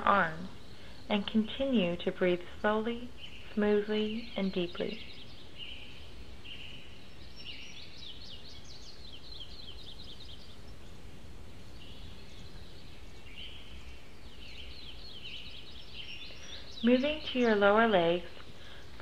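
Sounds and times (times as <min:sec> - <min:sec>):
low background hum: 0:00.0 - 0:19.0
songbirds chirping: 0:00.0 - 0:19.0.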